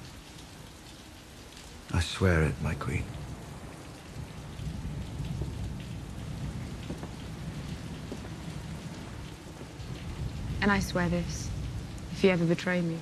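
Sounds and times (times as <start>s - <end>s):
steady rain: 0.0s - 13.0s
low rumble of thunder: 2.0s - 13.0s.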